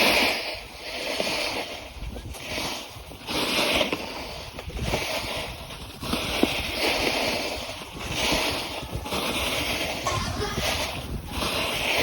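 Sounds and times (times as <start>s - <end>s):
skis swishing across snow: 0.0s - 12.0s
wind rumble on microphone: 0.0s - 12.0s.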